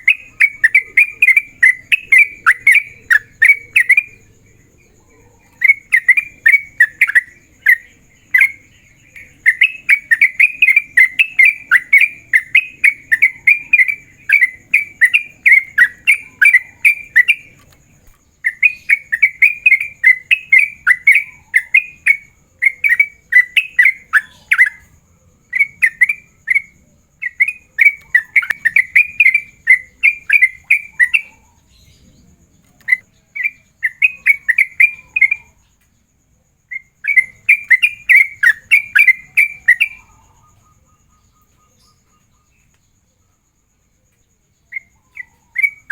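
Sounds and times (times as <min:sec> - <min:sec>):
bird singing rapid notes: 0:00.0 - 0:04.4, 0:05.2 - 0:24.9, 0:25.6 - 0:35.6, 0:36.8 - 0:42.7.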